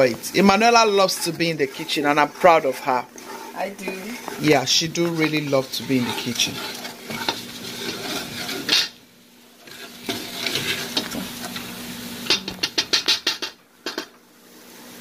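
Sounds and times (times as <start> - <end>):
wooden spoon scraping metal pot: 0.0 - 9.0, 9.6 - 14.0
food sizzling: 0.0 - 15.0.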